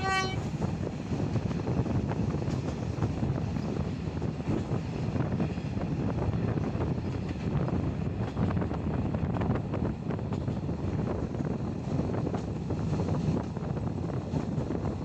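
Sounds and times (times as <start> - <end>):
train wheels rumbling on track: 0.0 - 15.0
wind buffeting microphone: 0.0 - 15.0.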